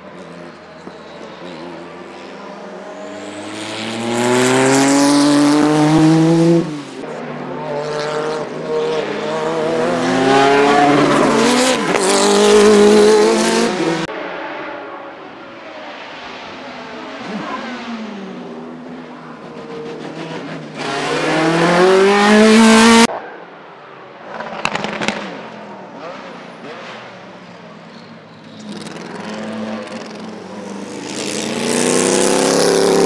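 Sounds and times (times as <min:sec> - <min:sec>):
race car engines passing: 0:00.0 - 0:33.0.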